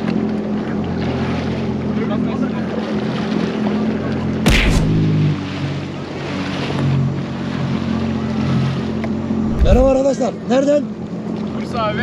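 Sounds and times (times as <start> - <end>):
jet ski engine humming: 0.0 - 12.0
water and wind rushing: 0.0 - 12.0.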